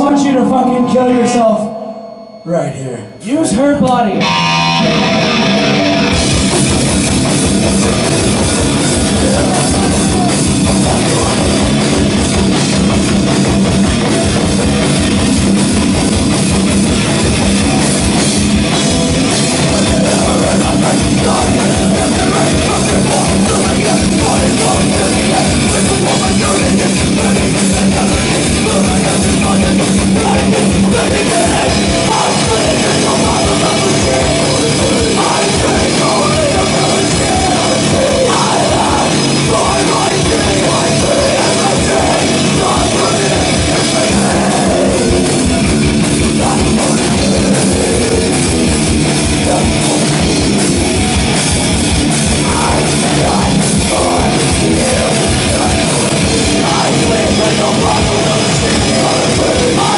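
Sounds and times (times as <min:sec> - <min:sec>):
live metal band playing: 0:00.0 - 0:59.9.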